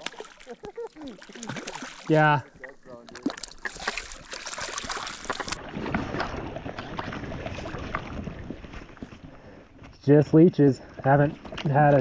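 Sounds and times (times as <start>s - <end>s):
water sloshing and splashing: 0.0s - 9.9s, 10.8s - 12.0s.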